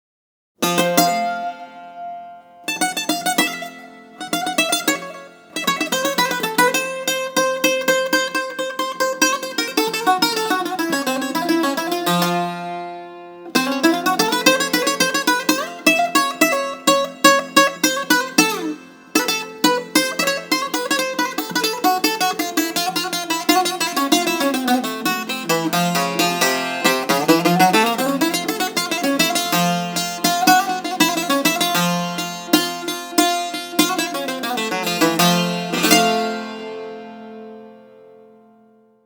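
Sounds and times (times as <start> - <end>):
solo bouzouki improvisation: 0.6 - 39.0.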